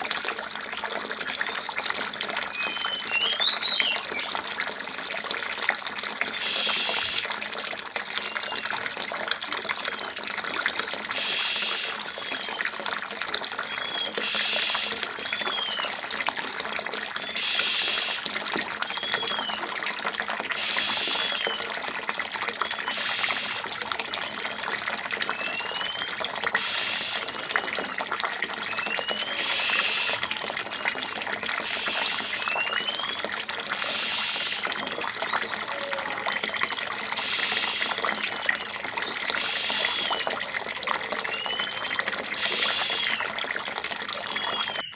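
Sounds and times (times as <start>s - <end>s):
water trickling: 0.0s - 44.9s.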